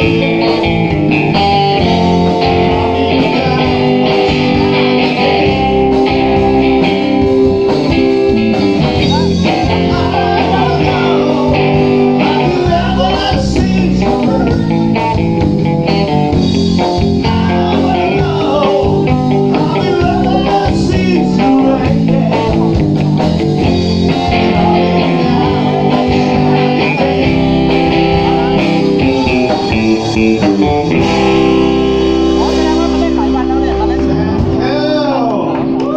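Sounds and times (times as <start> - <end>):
electric guitar: 0.0 - 35.9
live rock band: 0.0 - 35.9.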